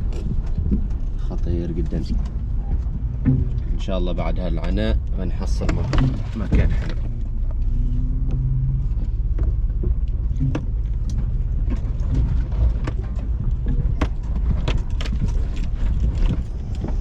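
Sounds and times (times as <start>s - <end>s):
car rumbling on rough road: 0.0s - 17.0s
knocks and rattles: 0.0s - 17.0s.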